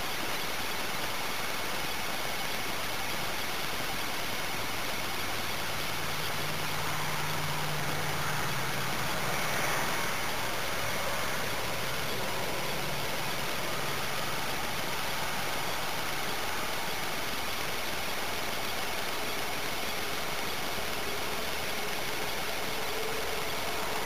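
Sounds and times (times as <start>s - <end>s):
microphone hiss: 0.0s - 24.0s
thin high steady tone: 0.0s - 24.0s.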